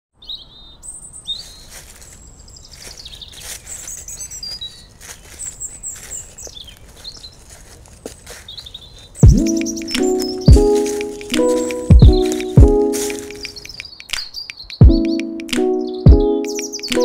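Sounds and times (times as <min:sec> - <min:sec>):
outdoor background hiss: 0:00.2 - 0:17.0
songbirds chirping and trilling: 0:00.2 - 0:17.0.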